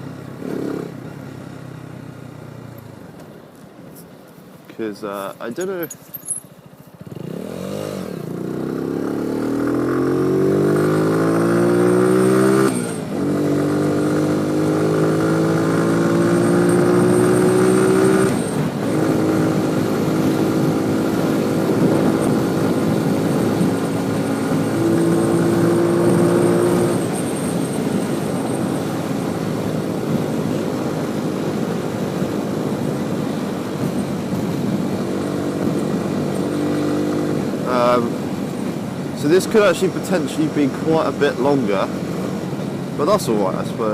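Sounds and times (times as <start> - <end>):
motorcycle engine accelerating: 0.0 - 3.0, 6.4 - 43.9.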